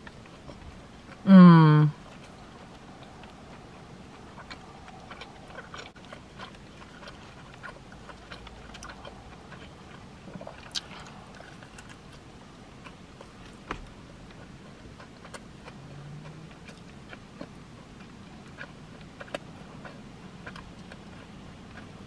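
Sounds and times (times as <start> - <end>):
biting and chewing sandwich: 2.0 - 22.0.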